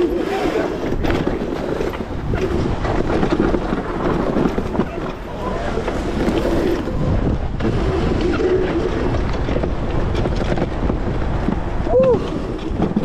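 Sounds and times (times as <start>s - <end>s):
electric dirt bike rumble: 0.0s - 13.0s
wind rushing over microphone: 0.0s - 13.0s
rattles and knocks from bumps: 0.8s - 13.0s.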